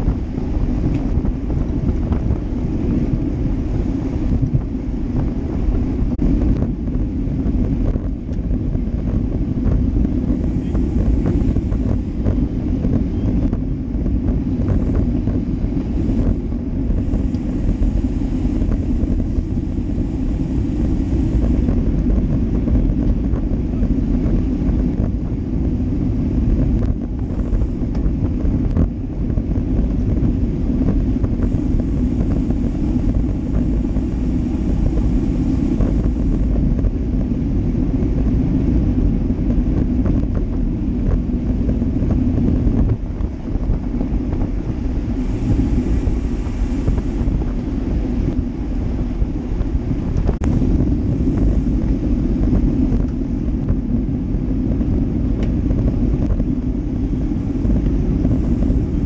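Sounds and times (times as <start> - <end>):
tyres rumbling on asphalt: 0.0 - 59.0
wind buffeting microphone: 0.0 - 59.0.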